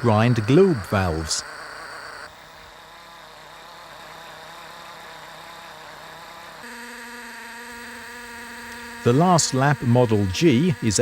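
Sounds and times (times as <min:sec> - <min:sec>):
valve grinding machine running: 0:00.0 - 0:03.0, 0:03.6 - 0:11.0.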